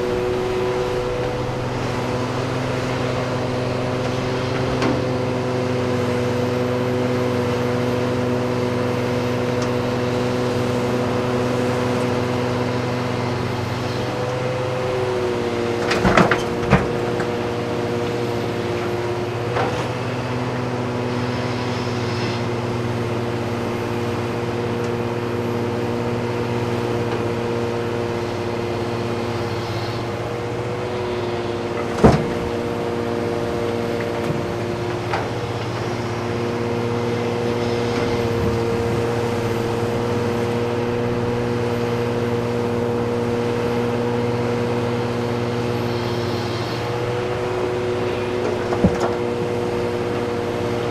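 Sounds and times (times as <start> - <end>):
diesel machinery engine running: 0.0 - 50.9.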